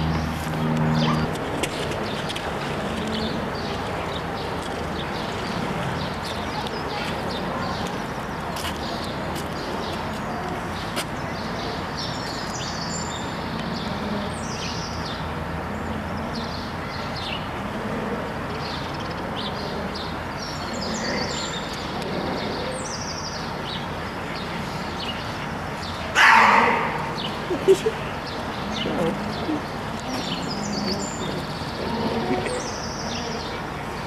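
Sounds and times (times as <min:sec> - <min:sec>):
small birds chirping: 0:00.0 - 0:17.6, 0:18.4 - 0:34.0.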